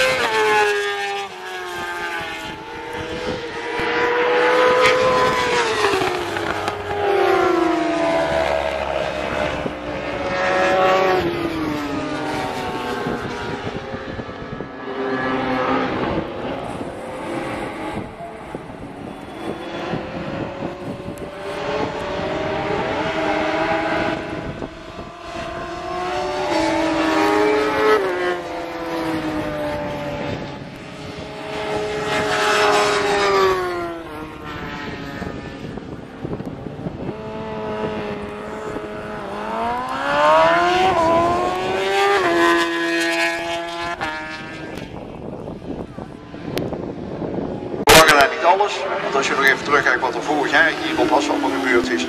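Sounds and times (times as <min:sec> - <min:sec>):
racing motorcycles accelerating: 0:00.0 - 0:52.0.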